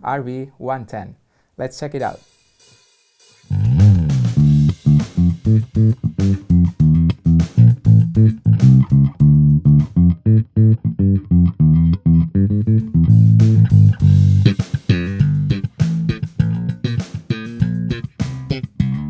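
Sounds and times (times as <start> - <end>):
electric bass plucked notes: 3.5 - 19.0.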